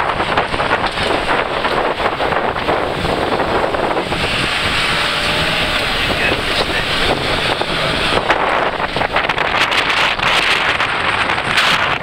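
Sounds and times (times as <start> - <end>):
knocks and rattles: 0.0 - 12.0
vehicle engine and tyre noise: 0.0 - 12.0
wind buffeting microphone: 0.0 - 12.0.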